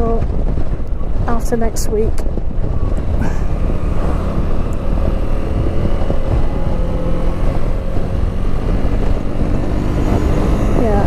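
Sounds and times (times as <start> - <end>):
motorcycle engine: 0.0 - 11.0
wind buffeting helmet: 0.0 - 11.0.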